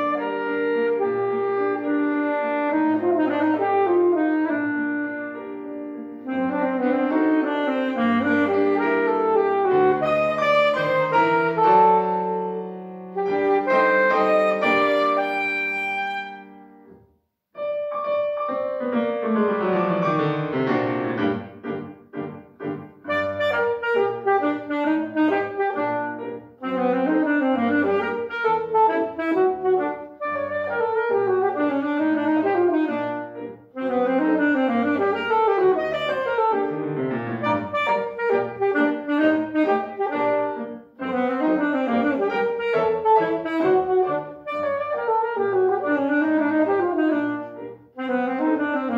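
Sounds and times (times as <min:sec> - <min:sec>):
saxophone: 0:00.0 - 0:17.0, 0:23.0 - 0:48.9
grand piano: 0:00.0 - 0:48.9.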